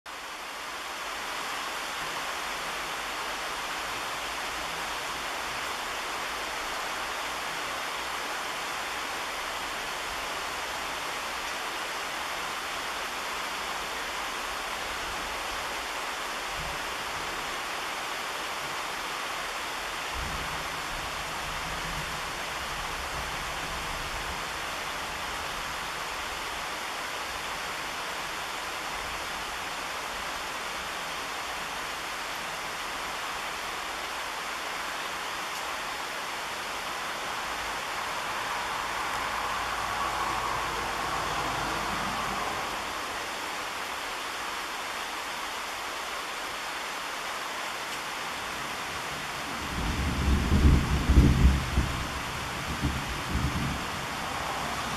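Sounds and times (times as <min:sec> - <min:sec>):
rain on tree leaves: 0:00.1 - 0:54.9.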